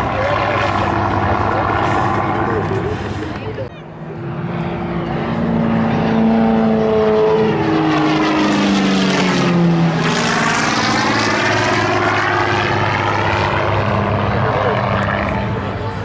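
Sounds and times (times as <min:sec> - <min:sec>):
propeller aircraft flying past: 0:00.0 - 0:16.0.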